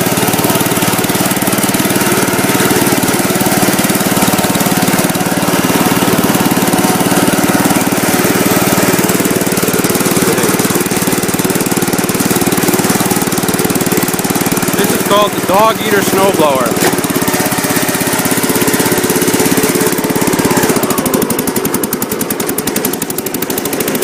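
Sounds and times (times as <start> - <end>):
single-cylinder engine running: 0.0 - 24.0.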